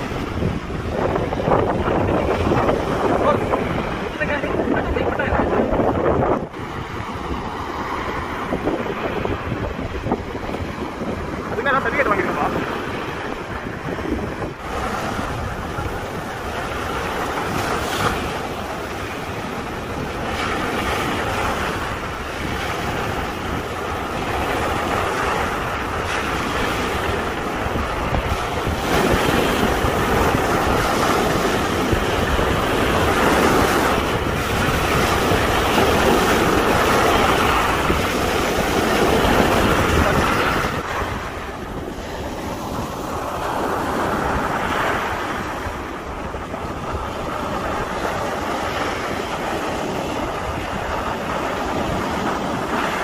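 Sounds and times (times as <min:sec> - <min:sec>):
surf breaking on sand: 0:00.0 - 0:53.0
wind buffeting microphone: 0:00.0 - 0:53.0.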